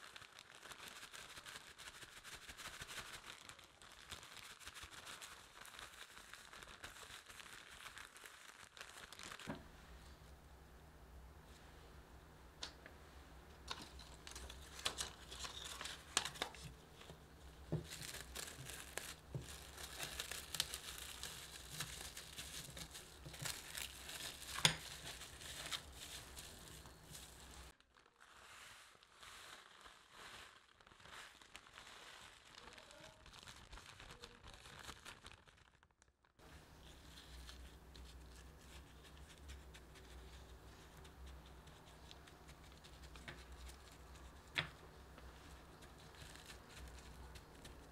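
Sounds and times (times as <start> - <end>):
plastic cling wrap crinkling: 0.0 - 9.6, 13.6 - 47.9.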